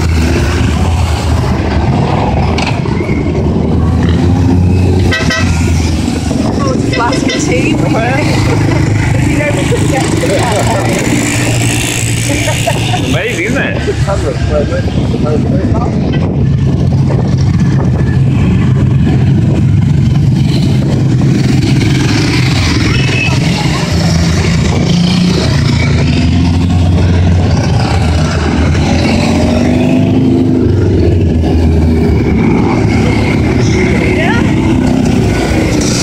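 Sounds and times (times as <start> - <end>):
motorcycles passing: 0.0 - 36.0.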